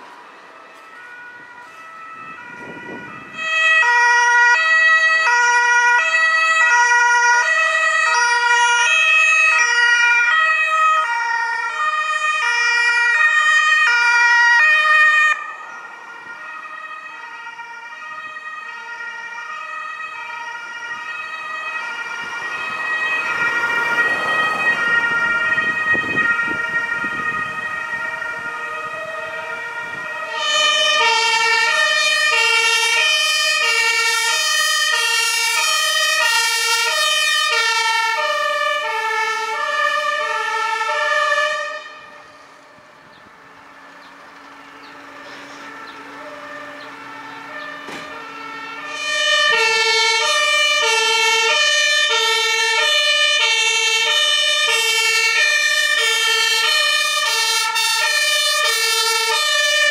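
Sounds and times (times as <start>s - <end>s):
two-tone emergency siren: 0.0s - 59.9s
vehicle engine and tyre noise: 0.0s - 59.9s.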